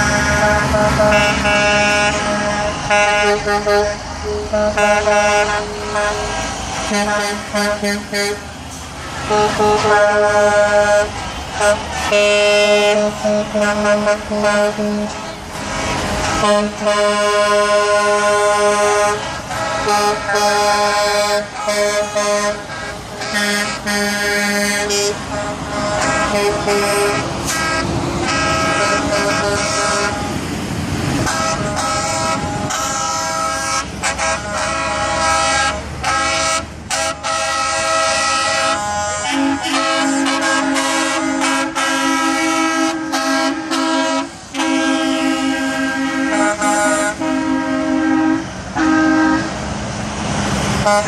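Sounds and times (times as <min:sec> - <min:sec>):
truck air horns blasting: 0:00.0 - 0:49.7, 0:50.7 - 0:51.0
truck engine and tyre noise: 0:00.0 - 0:51.0.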